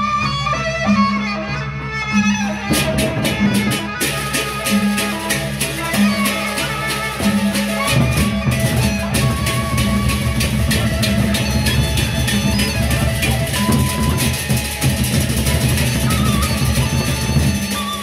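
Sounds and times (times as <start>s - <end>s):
barrel drums beating: 2.7s - 18.0s
hand cymbals clashing: 2.7s - 18.0s.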